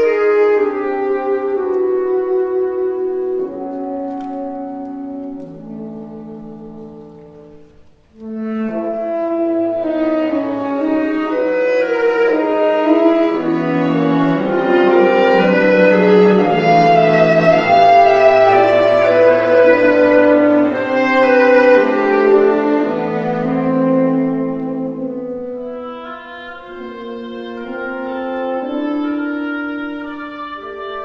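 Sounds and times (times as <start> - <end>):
low cello line: 0.0 - 31.0.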